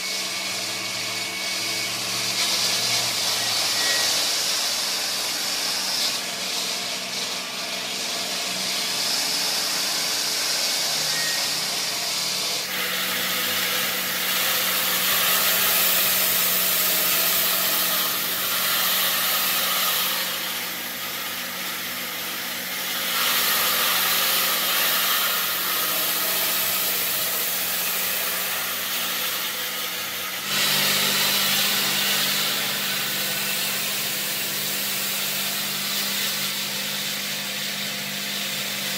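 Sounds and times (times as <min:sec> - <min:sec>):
saw blade grinding stone: 0:00.0 - 0:38.9.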